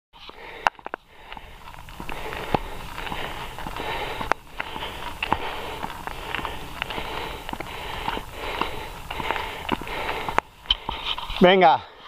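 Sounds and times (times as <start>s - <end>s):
bike tyres crunching on gravel: 0.2s - 11.8s.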